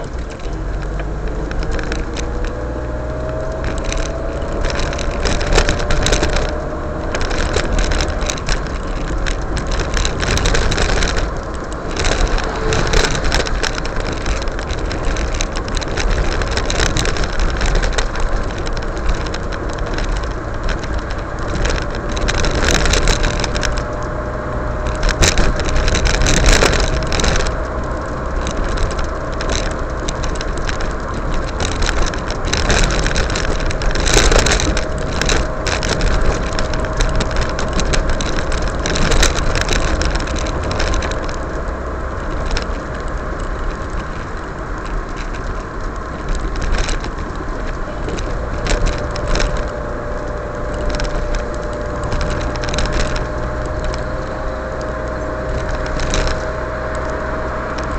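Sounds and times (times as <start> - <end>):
car tyre and engine noise: 0.0 - 57.9
small rattles and clicks: 0.0 - 57.9.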